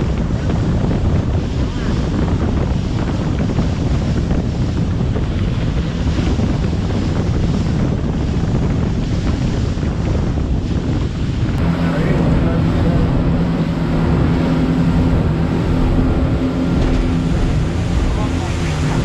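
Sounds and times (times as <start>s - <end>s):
water rushing past hull: 0.0s - 19.0s
wind buffeting microphone: 0.0s - 19.0s.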